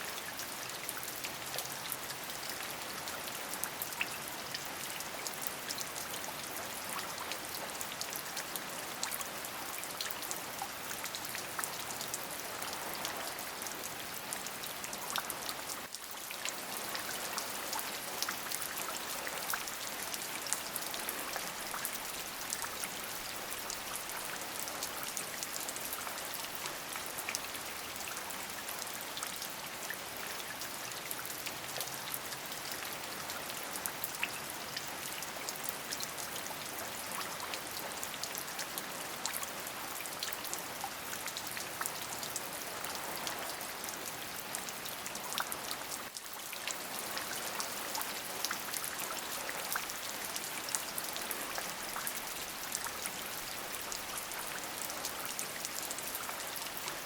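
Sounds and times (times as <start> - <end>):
steady rain falling: 0.0 - 57.0
raindrops ticking on a surface: 0.1 - 57.0.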